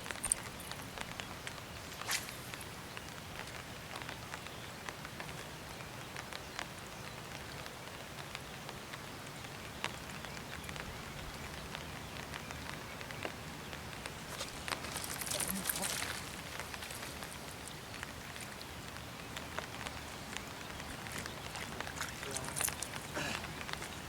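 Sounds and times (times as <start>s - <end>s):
light rain hissing: 0.0s - 24.0s
raindrops ticking: 0.0s - 24.0s.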